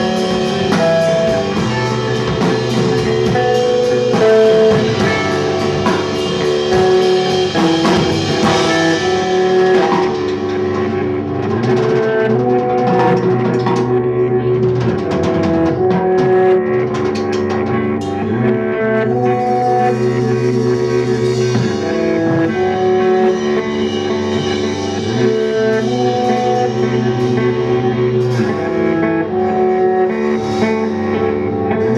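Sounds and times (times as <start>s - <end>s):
bass guitar: 0.0s - 31.9s
drum kit: 0.0s - 31.9s
electric guitar: 0.0s - 31.9s.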